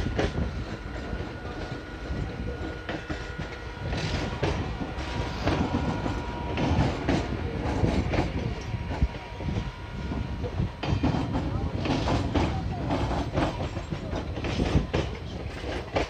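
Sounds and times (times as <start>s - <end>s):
low train rumble: 0.0s - 16.0s
train wheels clattering over rail joints: 0.0s - 16.0s.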